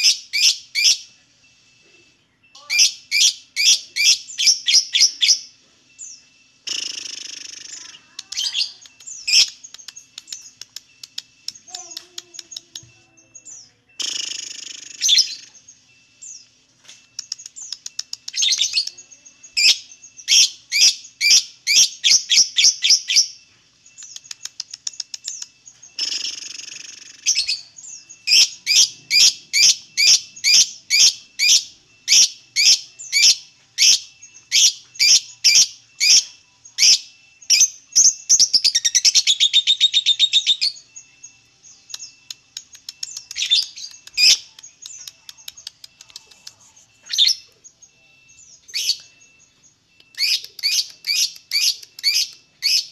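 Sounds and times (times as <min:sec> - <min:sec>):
lovebird chirping: 0:00.0 - 0:52.9.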